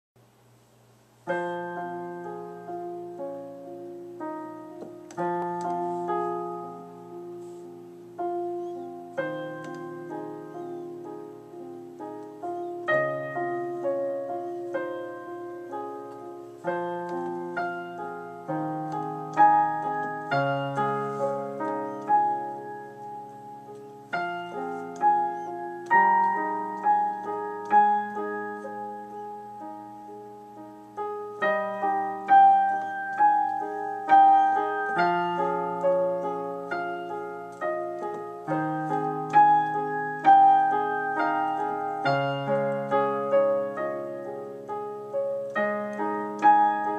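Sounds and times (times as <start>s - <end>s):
digital piano improvisation: 1.1s - 46.9s.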